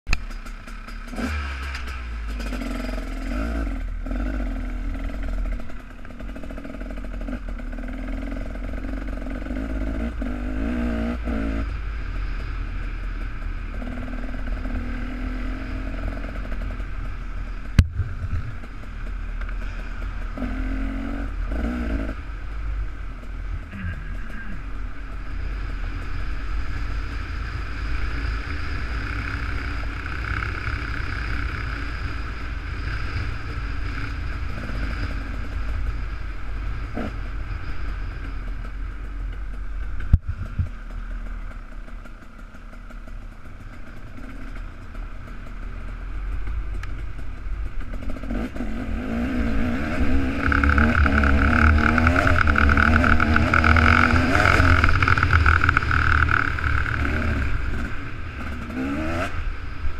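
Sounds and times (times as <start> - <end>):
dirt bike engine revving: 0.1 - 38.8, 47.6 - 59.8.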